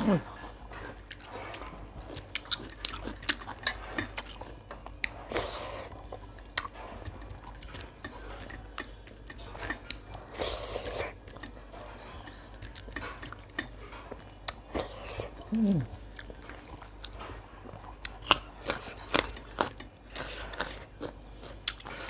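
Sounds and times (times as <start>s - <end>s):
chewing and biting: 0.1s - 22.0s.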